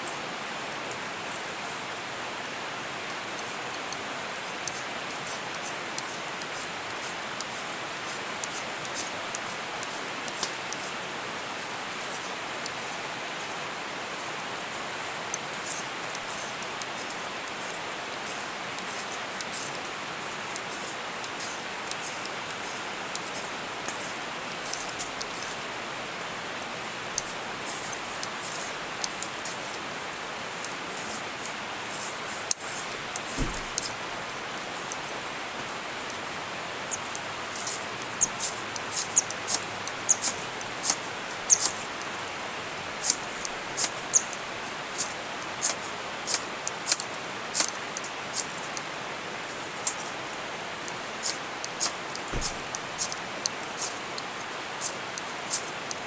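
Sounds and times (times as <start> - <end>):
campfire hissing: 1.4 - 56.0.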